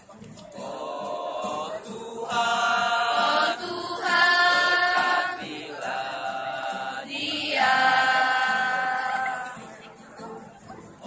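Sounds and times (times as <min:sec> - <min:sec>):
choir singing unaccompanied: 0:00.4 - 0:09.9.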